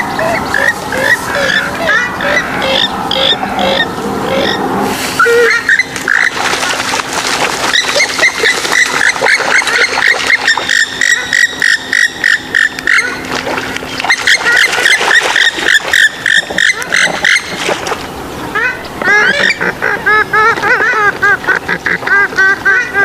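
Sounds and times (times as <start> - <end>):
swamphen and moorhen calls: 0.0 - 6.5, 7.7 - 13.3, 13.9 - 17.8, 18.5 - 22.3.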